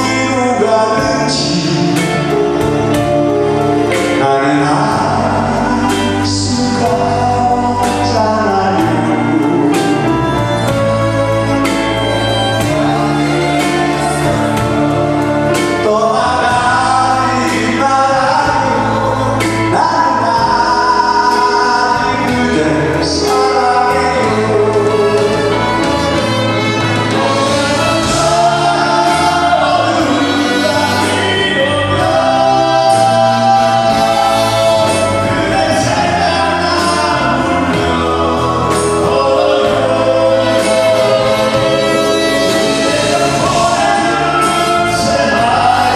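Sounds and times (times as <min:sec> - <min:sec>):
live band playing: 0:00.0 - 0:45.9
men singing a duet: 0:00.0 - 0:45.9.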